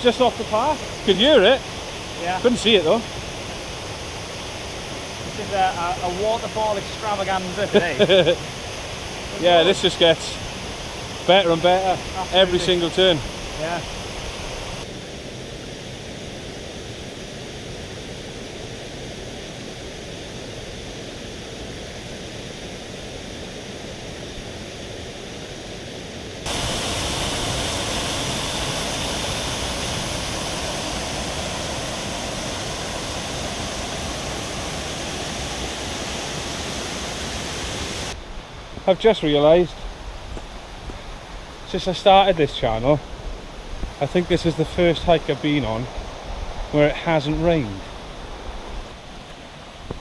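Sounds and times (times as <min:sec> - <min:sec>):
waterfall rushing: 0:00.0 - 0:15.0, 0:23.1 - 0:49.9.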